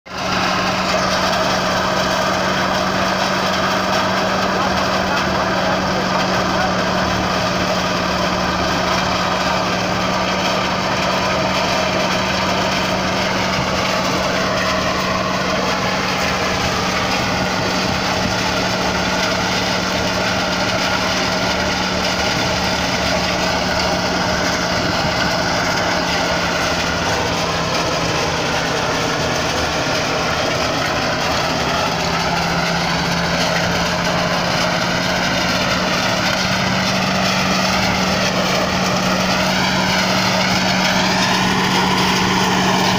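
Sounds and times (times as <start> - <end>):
small engine running steadily: 0.0 - 42.9.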